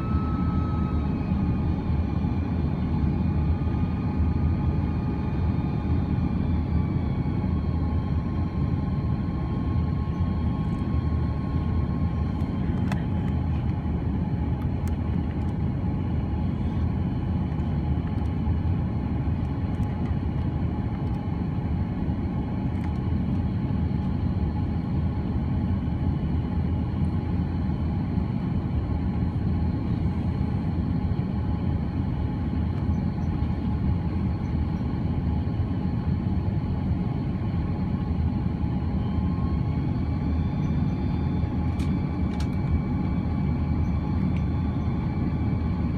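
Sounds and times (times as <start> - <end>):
aircraft cabin rumble: 0.0 - 45.9
engine whine: 0.0 - 45.9.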